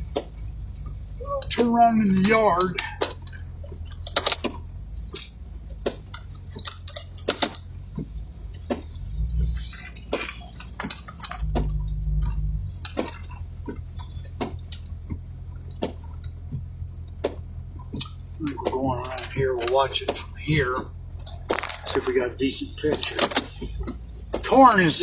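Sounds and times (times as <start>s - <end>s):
sharp clicks and rattles: 0.0s - 25.0s
vehicle engine running low: 0.0s - 25.0s.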